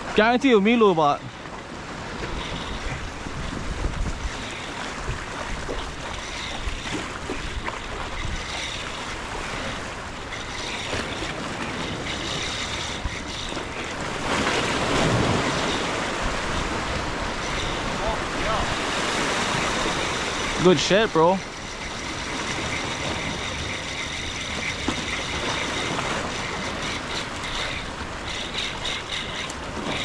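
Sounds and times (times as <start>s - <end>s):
ocean surf washing: 0.0s - 30.0s
wind buffeting microphone: 1.6s - 30.0s.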